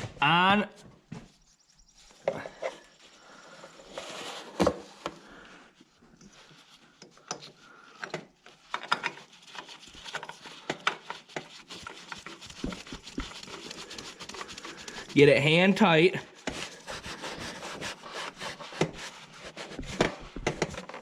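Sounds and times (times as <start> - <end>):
hands screwing on oil filter: 2.1 - 15.2, 16.4 - 21.0.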